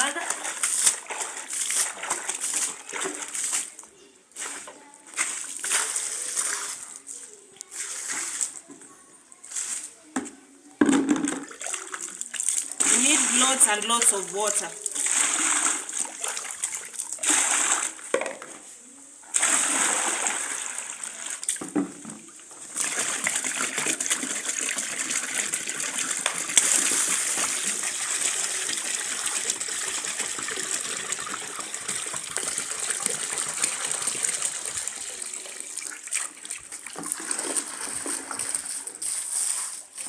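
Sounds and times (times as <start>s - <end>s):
water pouring onto carpet: 0.0s - 7.0s, 11.5s - 18.1s, 19.3s - 21.6s, 22.7s - 40.0s.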